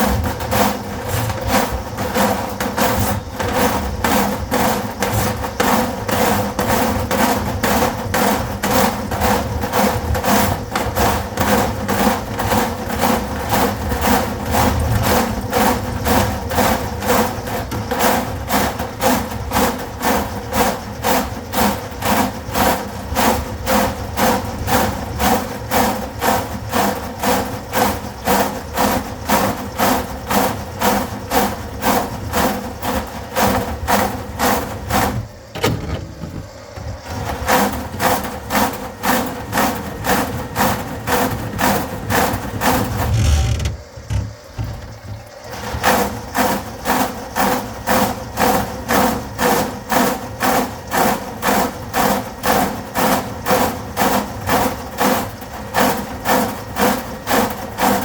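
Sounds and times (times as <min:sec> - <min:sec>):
drain-cleaning machine motor knocking: 0:00.0 - 0:58.0.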